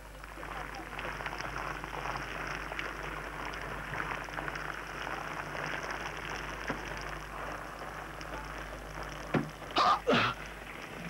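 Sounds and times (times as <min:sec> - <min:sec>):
low steady hum: 0:00.0 - 0:11.0
rain pattering: 0:00.0 - 0:11.0.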